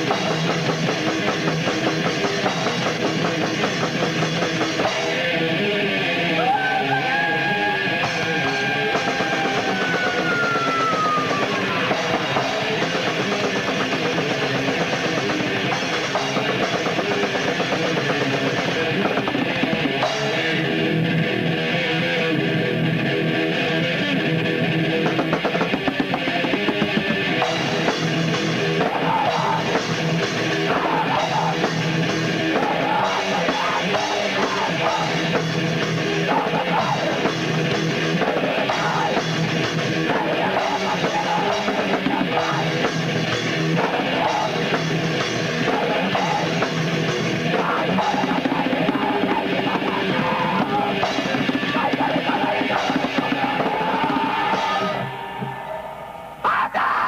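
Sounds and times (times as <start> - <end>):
pounding drum kit: 0.0 - 56.4
distorted electric guitars: 0.0 - 57.0.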